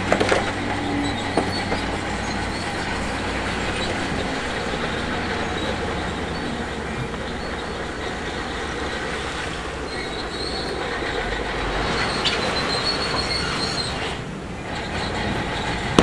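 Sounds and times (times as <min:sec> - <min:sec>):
bulldozer diesel engine: 0:00.0 - 0:16.0
high metallic track squeal: 0:00.0 - 0:16.0
steel tracks clanking: 0:00.0 - 0:16.0.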